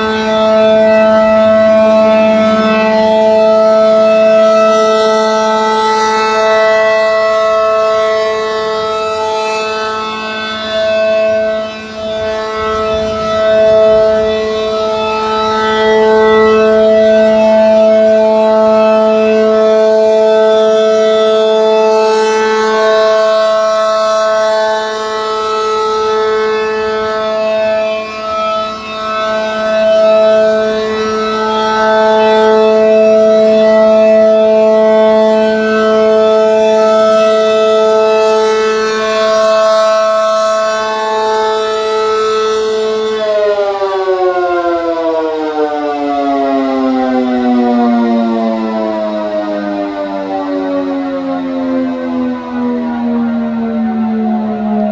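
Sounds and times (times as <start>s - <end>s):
warning siren steady tone: 0.0s - 54.9s.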